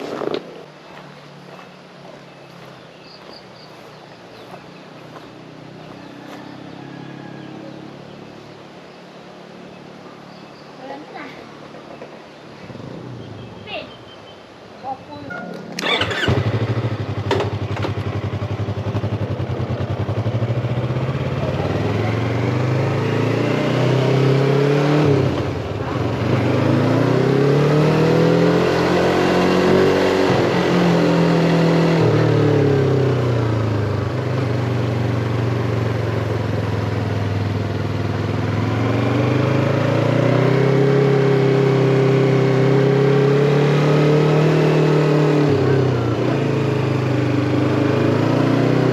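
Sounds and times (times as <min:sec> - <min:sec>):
motorcycle engine accelerating: 0:00.0 - 0:08.5, 0:12.6 - 0:13.9, 0:15.3 - 0:48.9.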